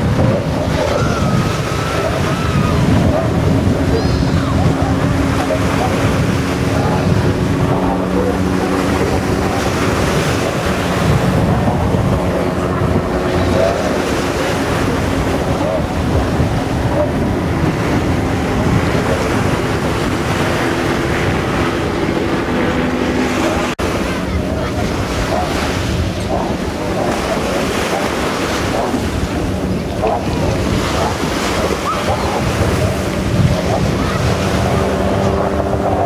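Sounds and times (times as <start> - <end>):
low-flying helicopter: 0.0 - 36.0
racing powerboat engines droning: 0.0 - 36.0
sea wash: 0.0 - 36.0
wind noise on microphone: 0.0 - 36.0.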